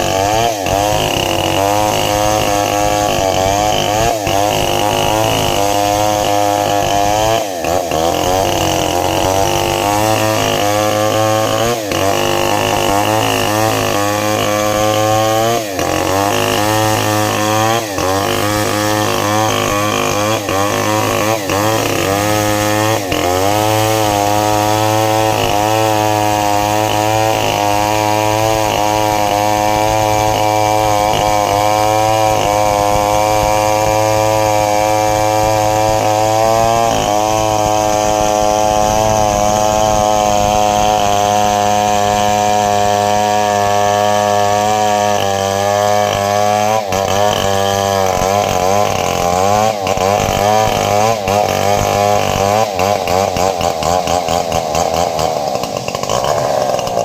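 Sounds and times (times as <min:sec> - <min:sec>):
chainsaws cutting logs: 0:00.0 - 0:57.0.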